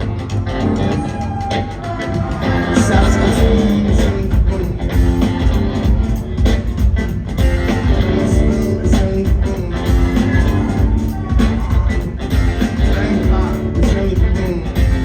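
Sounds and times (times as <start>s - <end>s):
drum beat: 0.0s - 15.0s
guitar: 0.0s - 15.0s
rock band playing live: 0.0s - 15.0s
low bass line: 2.4s - 15.0s.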